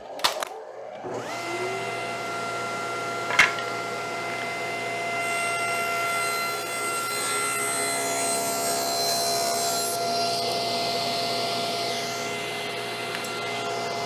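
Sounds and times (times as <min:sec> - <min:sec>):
table saw whining: 0:00.6 - 0:14.0.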